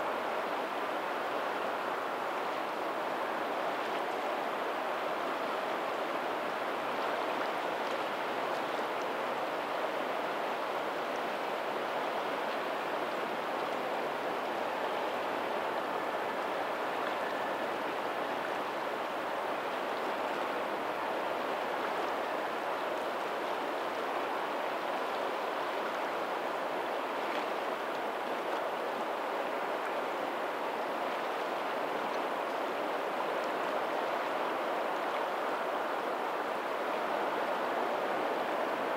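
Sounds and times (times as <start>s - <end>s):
faint ocean surf: 0.0s - 38.9s.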